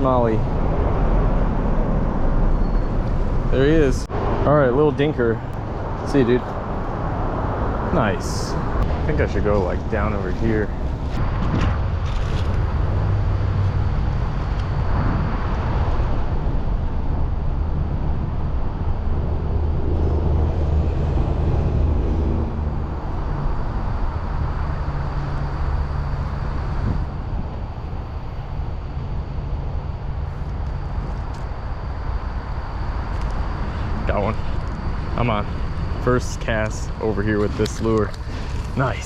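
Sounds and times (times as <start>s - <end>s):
low engine drone: 0.0s - 39.0s
outdoor noise: 0.0s - 39.0s.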